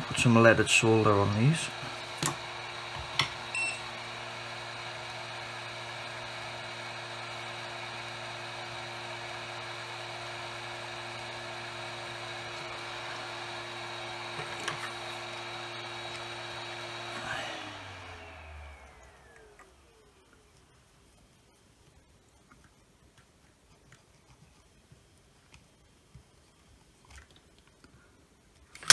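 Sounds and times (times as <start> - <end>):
small electric fan whirring: 0.0 - 28.9.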